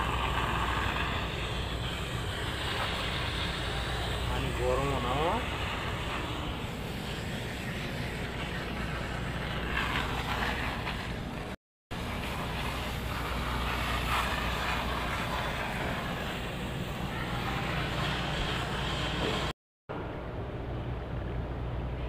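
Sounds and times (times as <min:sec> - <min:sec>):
machine hum with hiss: 0:00.0 - 0:22.0.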